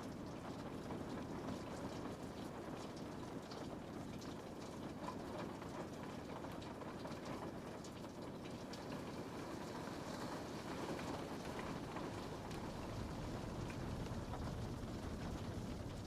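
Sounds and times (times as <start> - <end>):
rain on window pane: 0.0 - 16.0.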